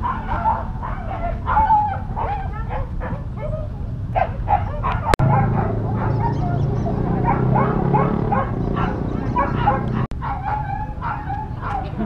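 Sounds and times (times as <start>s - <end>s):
dogs yipping and barking: 0.0s - 12.0s.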